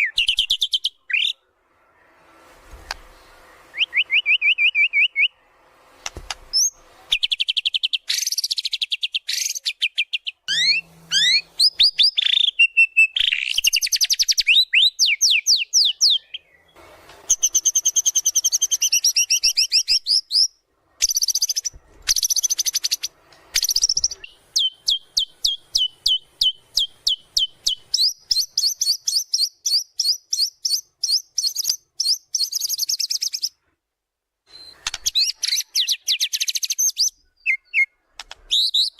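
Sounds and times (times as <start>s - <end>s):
bird singing varied song: 0.0s - 1.5s, 2.8s - 33.6s, 34.5s - 38.9s.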